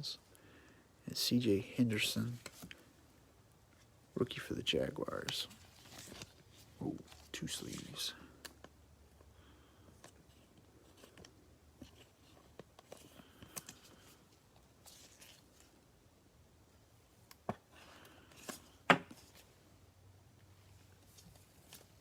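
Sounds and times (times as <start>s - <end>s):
cards and sleeves rustling: 1.2s - 3.1s, 3.7s - 16.0s, 16.8s - 19.8s, 20.4s - 22.0s.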